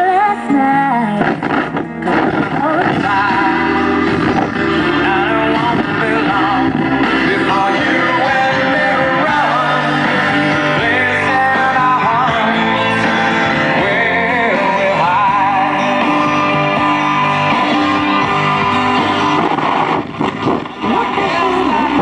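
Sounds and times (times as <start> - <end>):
rock song on radio: 0.0 - 22.0.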